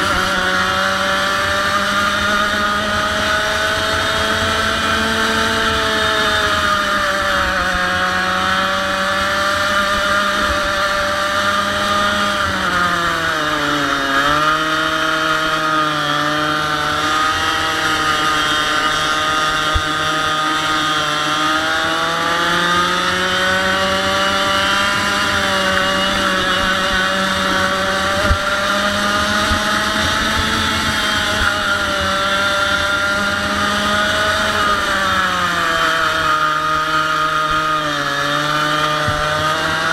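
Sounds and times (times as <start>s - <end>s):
two-stroke kart engine revving: 0.0s - 39.9s.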